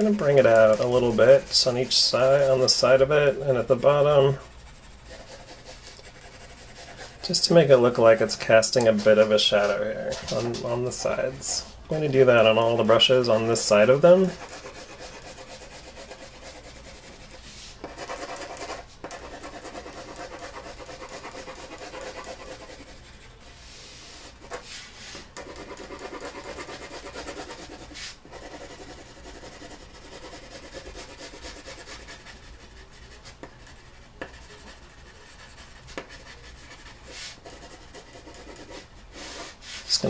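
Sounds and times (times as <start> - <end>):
pencil scratching on paper: 0.2 - 8.3, 13.0 - 39.8.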